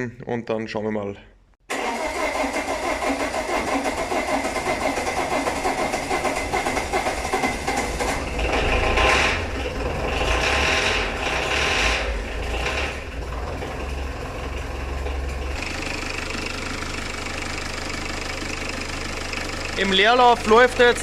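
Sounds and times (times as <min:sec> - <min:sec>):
diesel engine running and knocking: 0:02.7 - 0:21.0.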